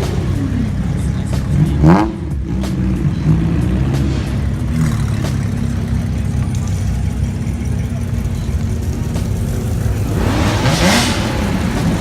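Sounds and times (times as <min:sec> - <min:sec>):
car engine revving: 0:00.0 - 0:12.0
low running of engines: 0:00.0 - 0:12.0.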